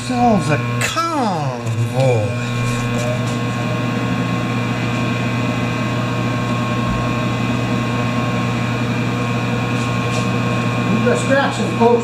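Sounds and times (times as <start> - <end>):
stick welder humming: 0.0 - 12.0.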